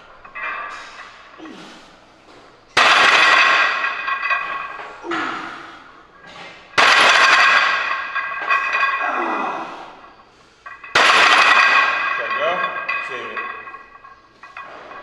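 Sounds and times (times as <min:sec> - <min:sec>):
barbell clanging onto metal pins: 0:00.0 - 0:01.7, 0:02.7 - 0:15.0.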